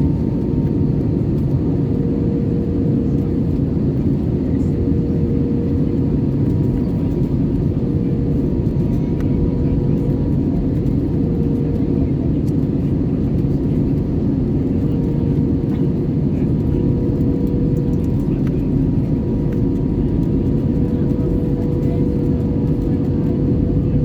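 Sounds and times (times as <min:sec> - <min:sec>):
airplane cabin rumble: 0:00.0 - 0:24.0.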